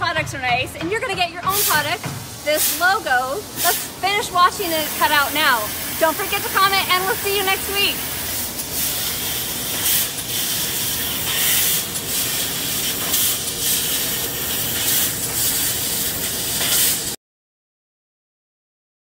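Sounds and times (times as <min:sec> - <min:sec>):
laser cutter hissing: 0:01.0 - 0:17.2.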